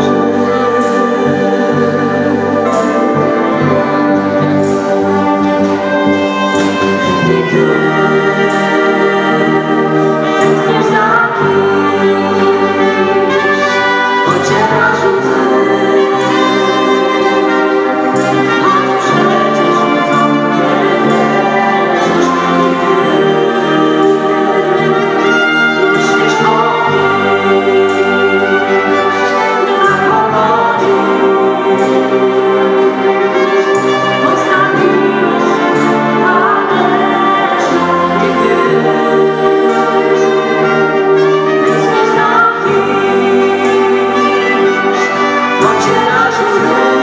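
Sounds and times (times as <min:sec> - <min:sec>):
brass section playing: 0:00.0 - 0:47.0
women singing into microphones: 0:00.0 - 0:47.0.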